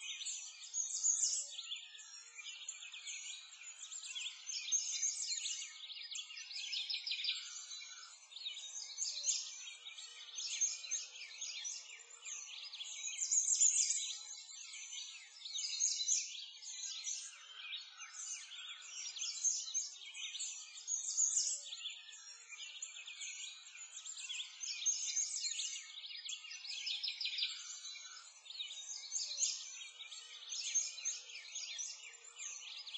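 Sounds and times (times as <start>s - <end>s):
songbirds chirping and singing: 0.0s - 32.9s.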